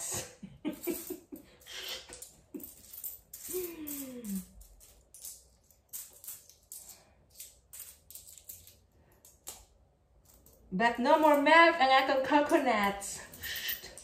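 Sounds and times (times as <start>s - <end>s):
coins clinking: 0.7s - 8.8s, 10.2s - 14.0s.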